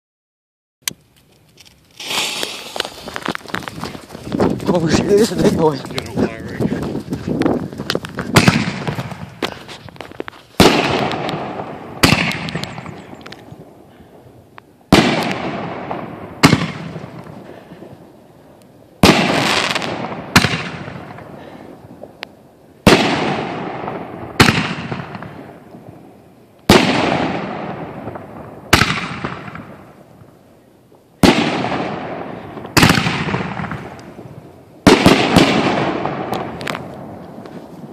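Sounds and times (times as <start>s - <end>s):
firework bangs: 2.0s - 14.3s, 14.9s - 18.2s, 19.0s - 22.2s, 22.8s - 26.0s, 26.7s - 30.3s, 31.2s - 37.9s.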